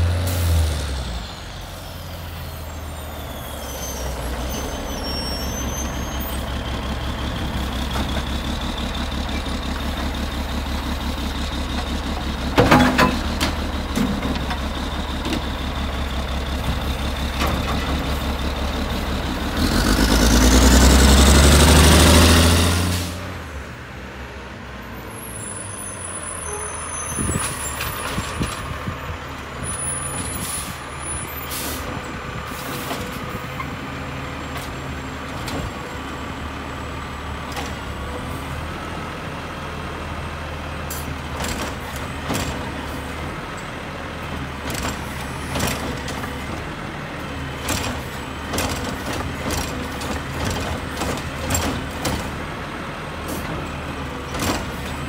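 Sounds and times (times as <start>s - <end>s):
garbage truck running: 0.0s - 25.2s, 26.2s - 55.0s.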